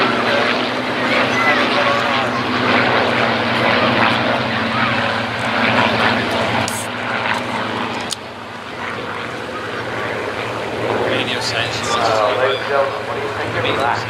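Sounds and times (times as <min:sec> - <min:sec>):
propeller planes droning past: 0:00.0 - 0:14.0.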